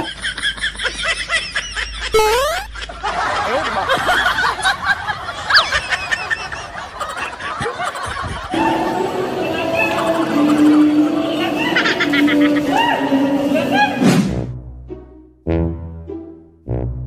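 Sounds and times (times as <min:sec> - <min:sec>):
snickering laughter: 0:00.0 - 0:13.8.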